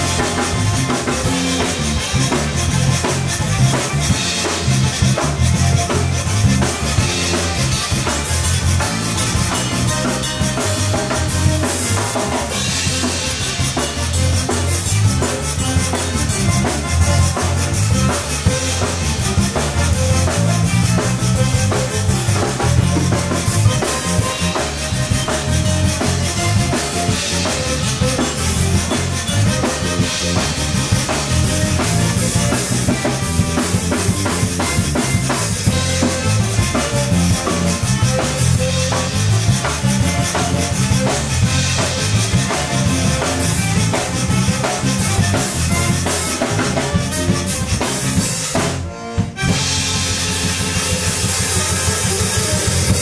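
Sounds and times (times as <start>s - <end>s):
accordion: 0.0s - 53.0s
drum kit: 0.0s - 53.0s
electric bass: 0.0s - 53.0s
rubboard scraping a beat: 0.0s - 53.0s.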